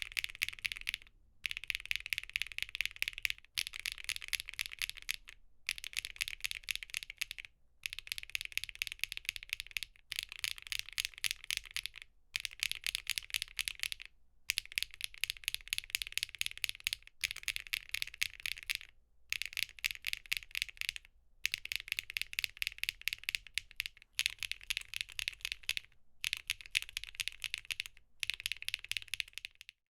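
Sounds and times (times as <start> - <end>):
typing on mechanical keyboard: 0.0 - 29.8.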